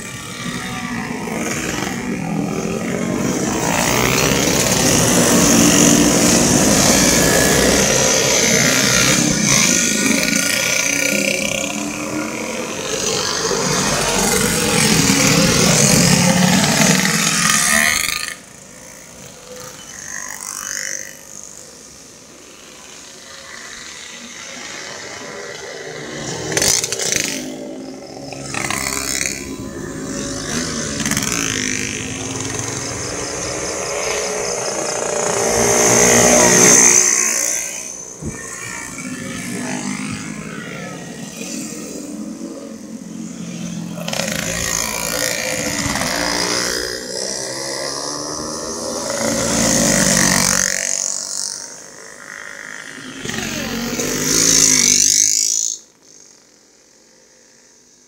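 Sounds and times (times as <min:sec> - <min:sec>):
motorcycles passing by: 0:00.0 - 0:58.0.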